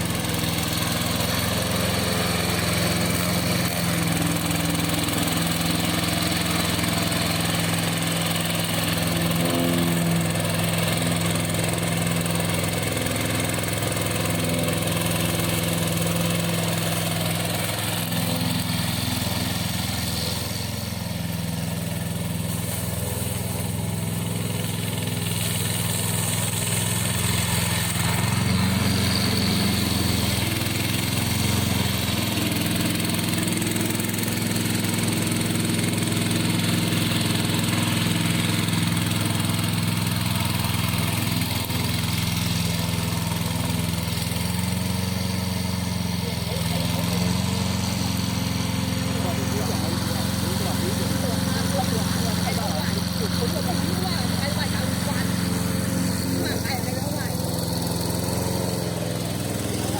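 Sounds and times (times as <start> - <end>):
mower engine running: 0.0 - 59.9.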